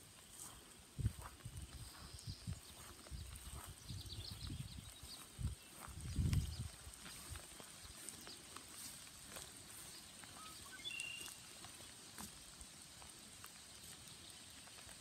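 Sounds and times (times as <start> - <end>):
light rain drops ticking: 0.0 - 15.0.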